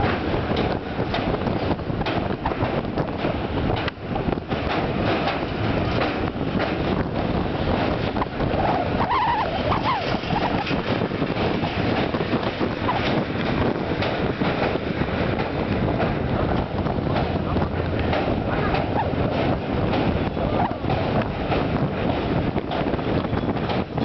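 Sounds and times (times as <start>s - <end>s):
train rumble: 0.0s - 24.0s
wheels clattering on bridge: 0.0s - 24.0s
wind buffeting microphone: 0.0s - 24.0s.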